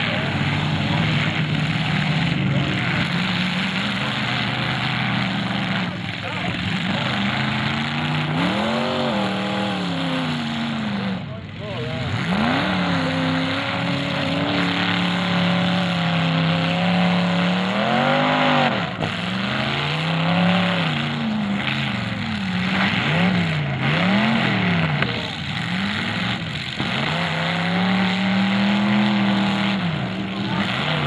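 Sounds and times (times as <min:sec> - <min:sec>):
car engines revving hard: 0:00.0 - 0:31.0.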